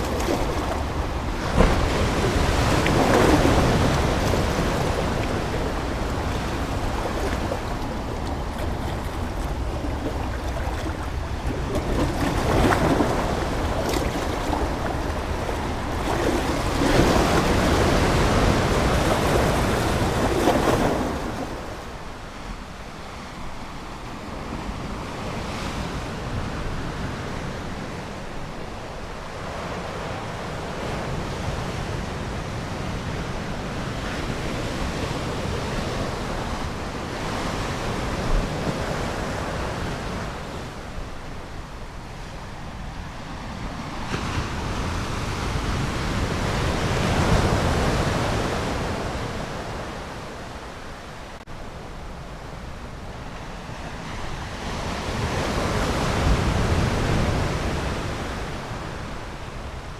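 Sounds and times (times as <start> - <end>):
ocean waves washing in: 0.0 - 59.9.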